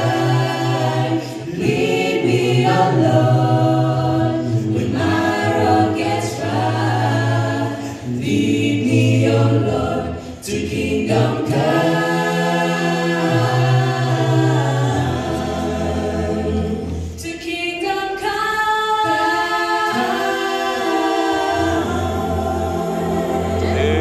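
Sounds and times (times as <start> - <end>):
mixed choir singing a cappella: 0.0 - 24.0.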